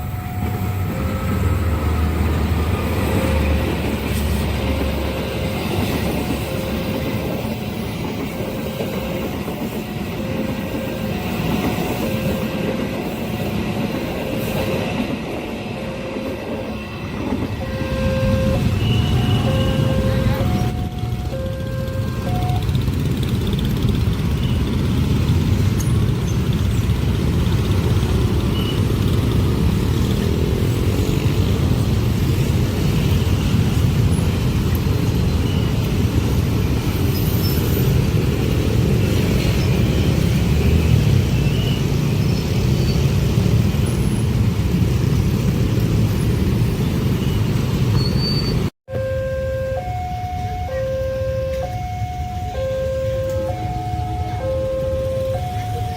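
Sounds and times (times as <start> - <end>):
train rumbling past: 0.0 - 48.7.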